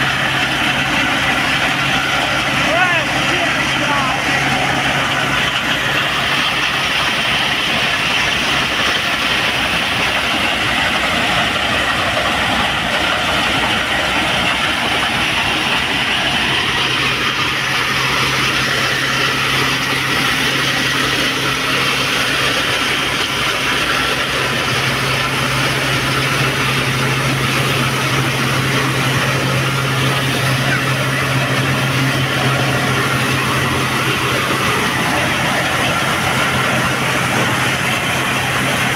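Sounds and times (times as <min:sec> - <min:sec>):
steady low hum: 0:00.0 - 0:38.9
thresher machine running: 0:00.0 - 0:38.9.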